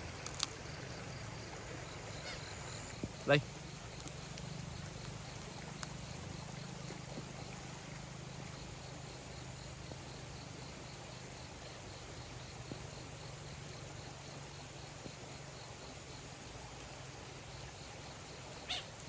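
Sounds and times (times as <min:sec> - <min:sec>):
pulsing high insect chirr: 0:00.0 - 0:19.0.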